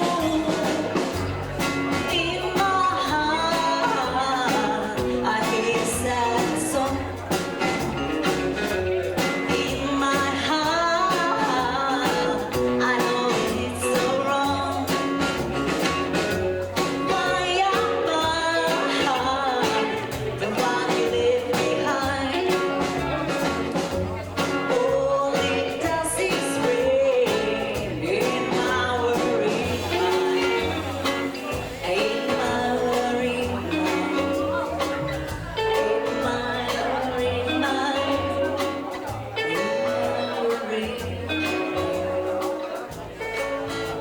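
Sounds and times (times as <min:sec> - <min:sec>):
person singing: 0:00.0 - 0:44.0
rockabilly band playing: 0:00.0 - 0:44.0.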